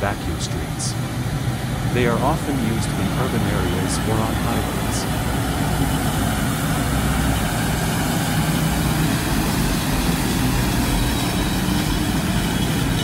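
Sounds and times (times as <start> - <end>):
street sweeper engine and brushes: 0.0 - 13.0.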